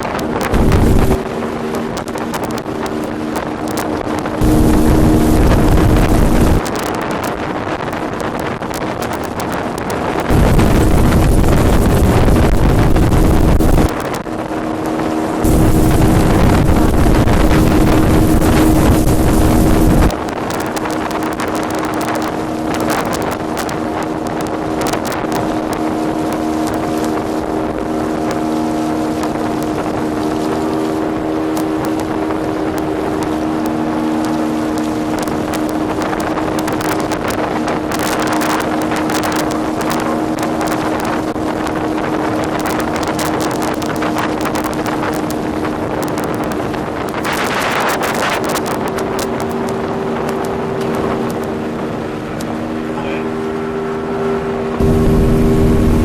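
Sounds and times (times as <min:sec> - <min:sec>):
motorboat engine running: 0:00.0 - 0:56.0
wind buffeting microphone: 0:00.0 - 0:56.0.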